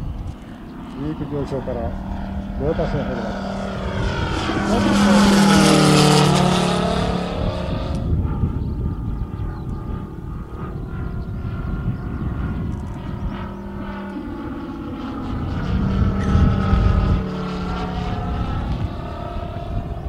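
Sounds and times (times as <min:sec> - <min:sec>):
model plane engine passing overhead: 0:00.0 - 0:20.0.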